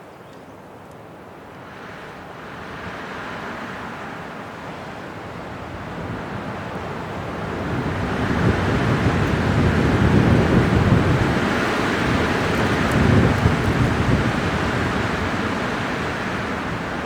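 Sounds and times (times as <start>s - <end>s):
wind gusting: 1.1s - 17.0s.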